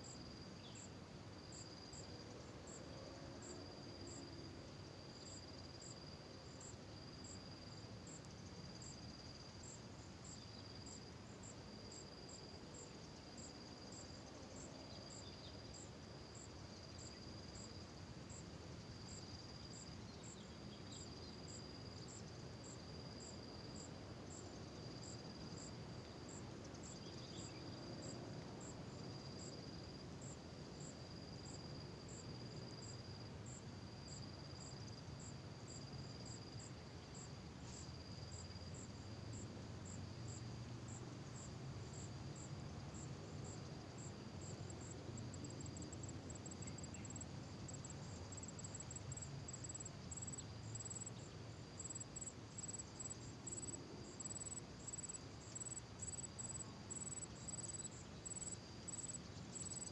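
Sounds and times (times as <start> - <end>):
insects chirring: 5.1 - 59.9.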